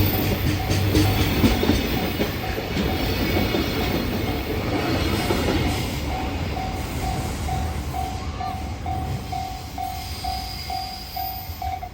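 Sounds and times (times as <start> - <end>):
freight train rumbling past: 0.0 - 11.9.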